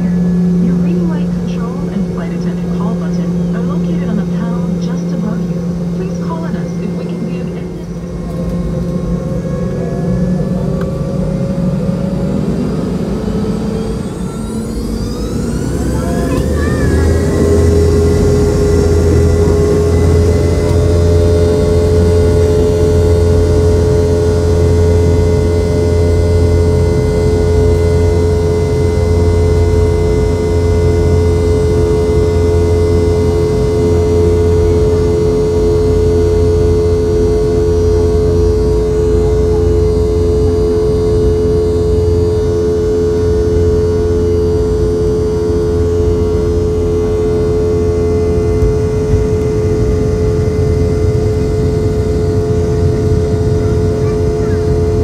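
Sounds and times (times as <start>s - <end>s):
jet engines rumbling and whining: 0.0s - 55.0s.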